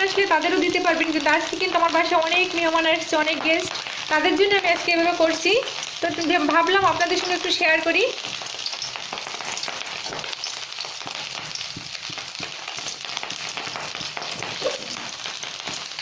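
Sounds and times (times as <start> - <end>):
slices sizzling in hot oil: 0.0 - 16.0.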